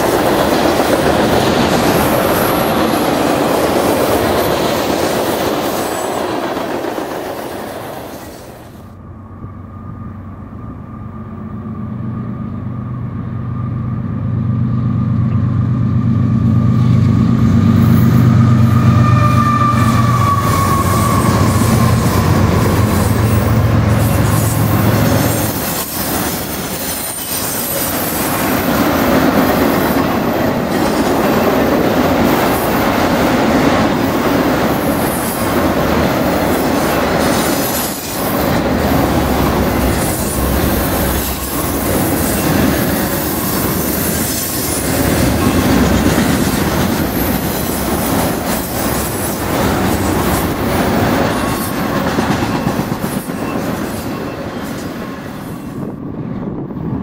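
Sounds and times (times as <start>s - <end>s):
wheel-on-rail noise: 0.0s - 9.5s, 14.7s - 57.0s
freight cars rolling past: 0.0s - 56.9s
diesel locomotive engine drone: 0.0s - 57.0s.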